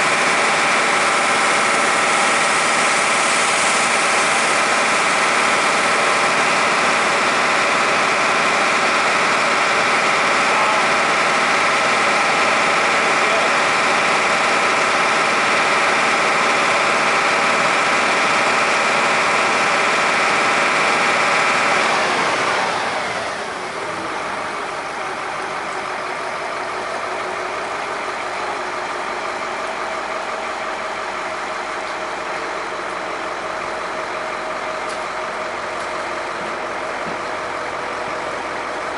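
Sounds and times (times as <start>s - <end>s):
fire engine engine running fast: 0.0s - 38.9s.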